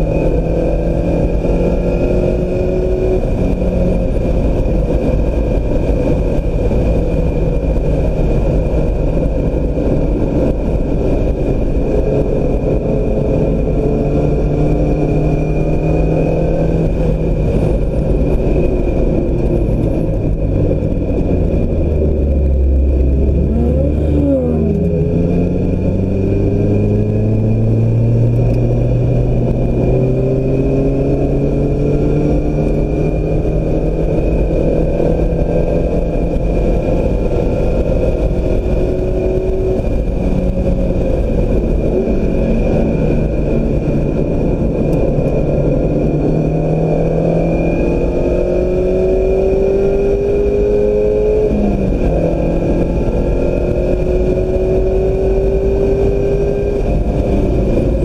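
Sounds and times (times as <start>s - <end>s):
car engine accelerating hard: 0.0s - 58.0s
rushing wind and road noise: 0.0s - 58.0s.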